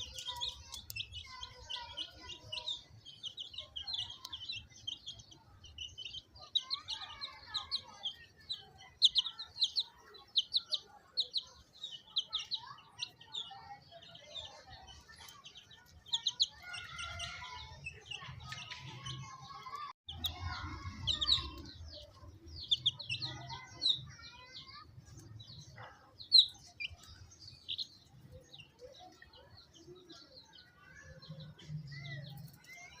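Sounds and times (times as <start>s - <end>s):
baby chicks peeping: 0.0s - 33.0s.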